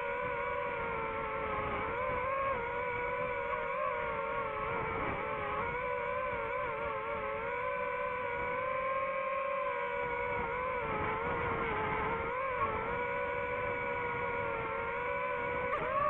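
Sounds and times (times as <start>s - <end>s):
drone motors buzzing: 0.0s - 16.0s.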